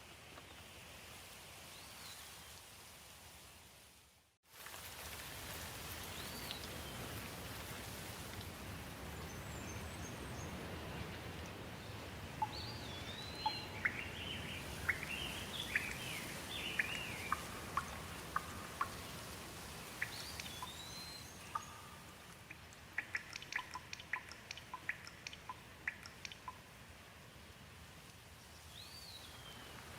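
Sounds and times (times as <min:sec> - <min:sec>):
steady background hiss: 0:00.0 - 0:29.9.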